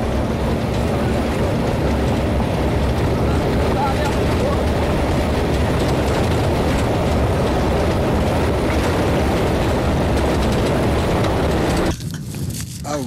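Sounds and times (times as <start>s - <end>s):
vehicle rumbling in motion: 0.0s - 13.0s.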